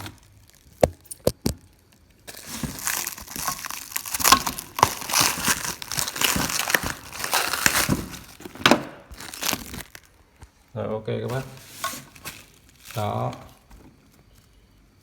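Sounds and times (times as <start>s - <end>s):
plastic wrapping crinkling: 0.0s - 10.6s, 11.2s - 14.6s.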